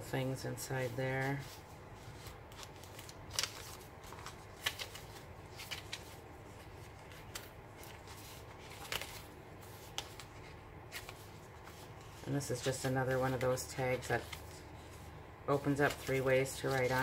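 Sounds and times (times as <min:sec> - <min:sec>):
paper pages rustling: 0:00.7 - 0:17.0.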